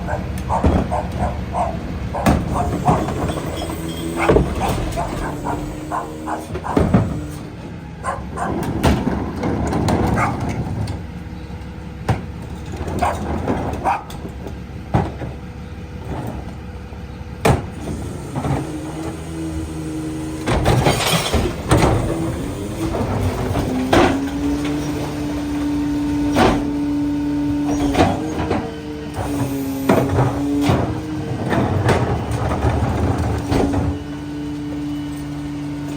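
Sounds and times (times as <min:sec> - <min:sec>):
hydraulic whine: 0:00.0 - 0:11.7, 0:16.0 - 0:35.9
metal clanks in truck hopper: 0:00.0 - 0:16.7, 0:17.4 - 0:35.9.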